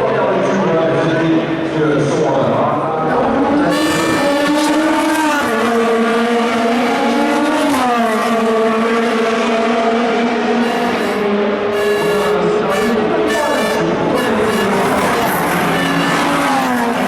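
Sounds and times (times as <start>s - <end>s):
race car engine accelerating: 0.2s - 17.0s.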